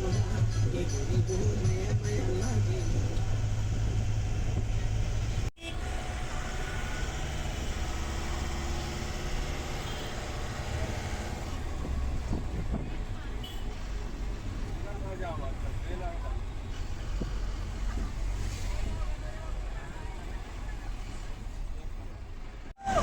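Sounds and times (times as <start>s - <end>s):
vehicle rumbling on road: 0.0s - 23.0s.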